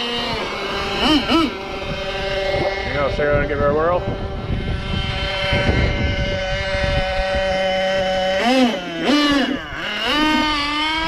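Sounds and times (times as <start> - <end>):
model car engine revving: 0.0 - 11.0.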